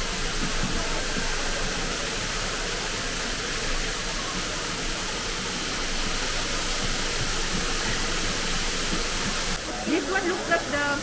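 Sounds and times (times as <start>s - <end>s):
indoor waterfall rushing: 0.0s - 11.0s.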